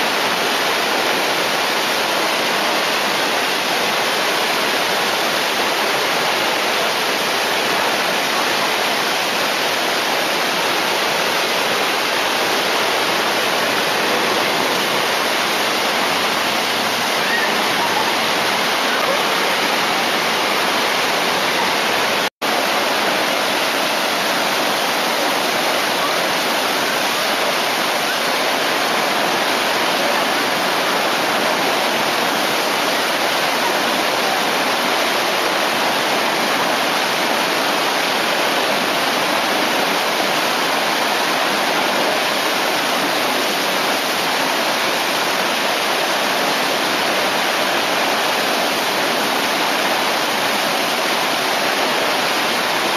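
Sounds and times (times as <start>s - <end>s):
rushing whitewater: 0.0s - 52.9s.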